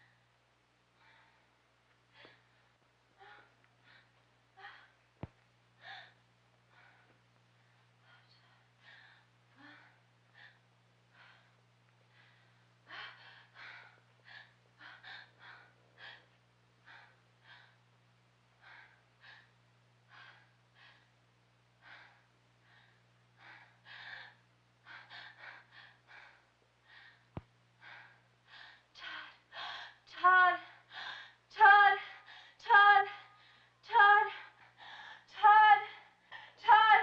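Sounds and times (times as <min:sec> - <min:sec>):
steady low hum: 0:00.0 - 0:37.0
person breathing quickly and gasping: 0:01.0 - 0:05.0, 0:05.8 - 0:07.3, 0:07.9 - 0:17.9, 0:18.6 - 0:21.2, 0:21.8 - 0:36.7.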